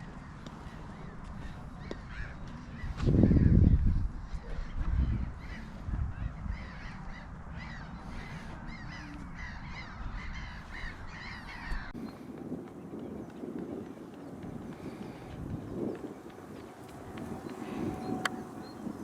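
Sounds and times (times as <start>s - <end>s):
birds calling rapidly: 0.1s - 19.0s.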